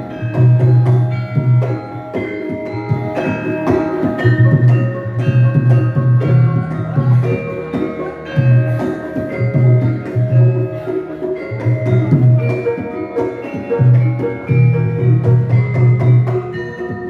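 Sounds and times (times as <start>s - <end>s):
metallophones and gongs ringing: 0.0s - 17.0s.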